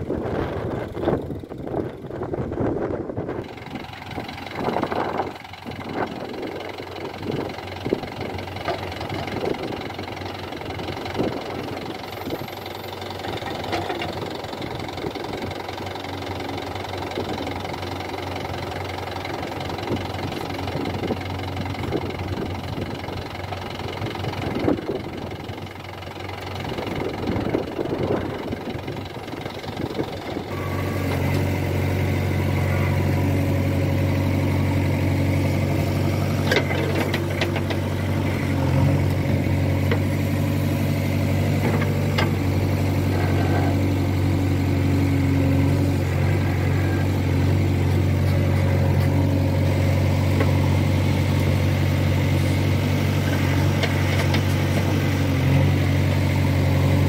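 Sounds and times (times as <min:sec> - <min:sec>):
diesel engines running: 0:00.0 - 0:57.0
backhoe digging soil: 0:03.4 - 0:57.0.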